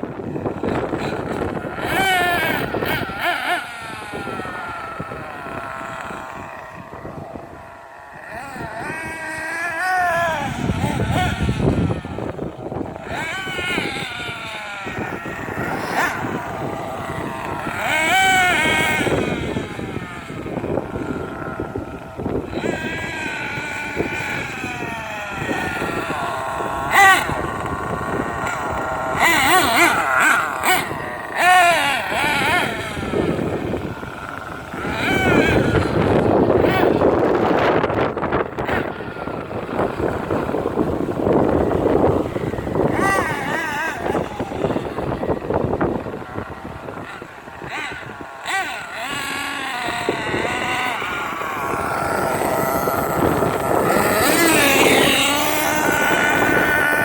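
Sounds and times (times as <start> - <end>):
rc truck motor revving: 0.0 - 57.0
wind noise on microphone: 0.0 - 57.0.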